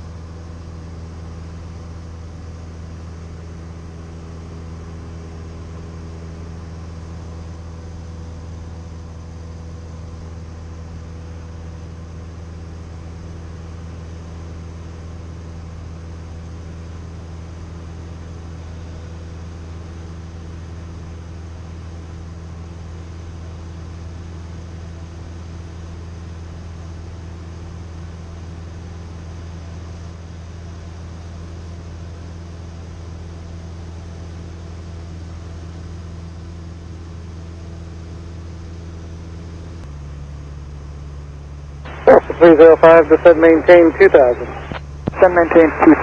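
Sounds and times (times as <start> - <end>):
airplane engine drone in cabin: 0.0 - 46.0.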